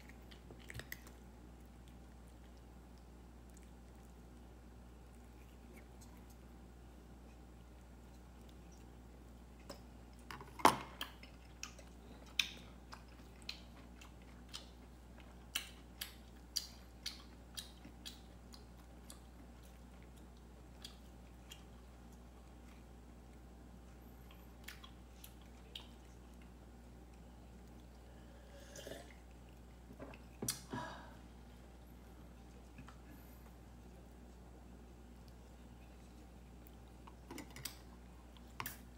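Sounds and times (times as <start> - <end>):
cat chewing: 0.0 - 28.5, 31.4 - 38.9.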